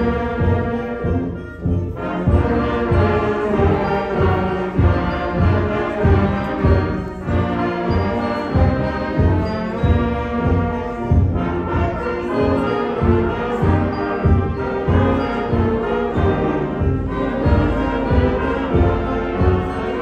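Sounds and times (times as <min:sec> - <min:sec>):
concert band playing: 0:00.0 - 0:20.0.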